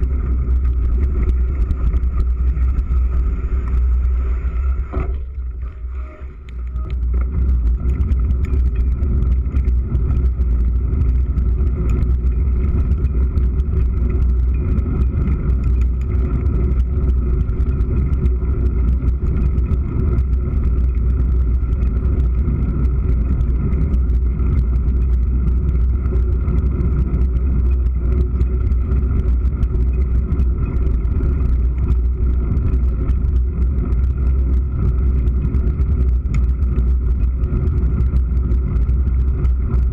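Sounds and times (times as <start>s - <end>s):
bike knocks and rattles: 0.0s - 5.9s, 6.5s - 39.9s
wind and tyre rumble: 0.0s - 39.9s.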